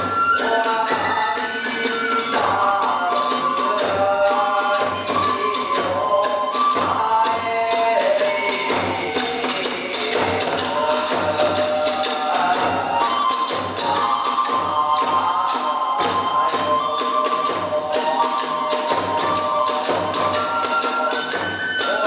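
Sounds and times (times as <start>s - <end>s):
sliding held melody: 0.0s - 22.0s
taiko drum beating: 0.0s - 22.0s.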